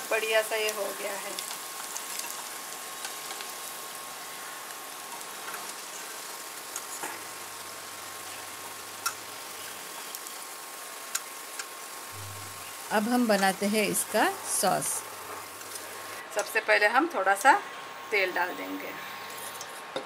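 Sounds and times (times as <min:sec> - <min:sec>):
fritters sizzling in hot oil: 0:00.0 - 0:19.9.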